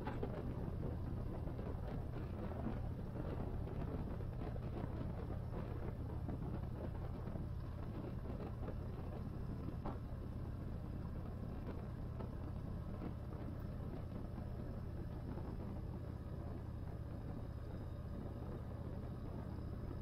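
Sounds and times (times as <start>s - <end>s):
motorcycle engine cruising: 0.0s - 20.0s
wind and road rush: 0.0s - 20.0s.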